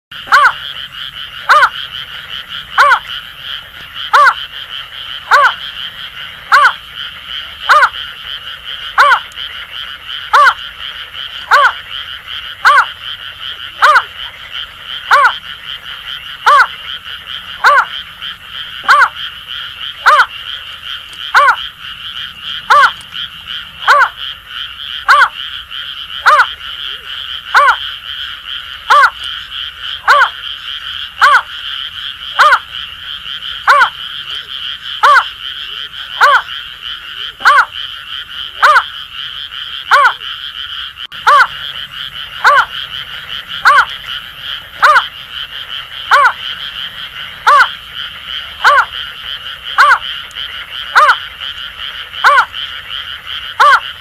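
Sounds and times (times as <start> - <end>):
chorus of frogs: 0.1 - 54.0.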